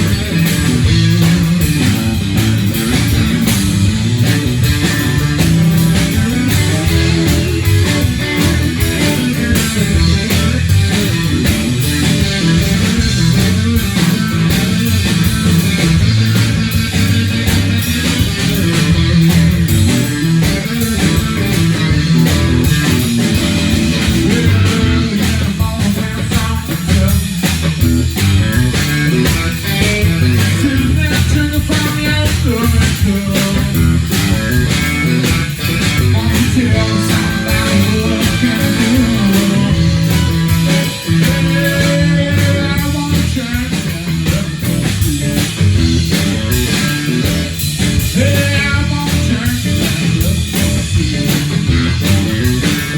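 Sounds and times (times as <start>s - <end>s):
bass guitar: 0.0s - 52.9s
electric guitar: 0.0s - 52.9s
steady drum beat: 0.0s - 52.9s.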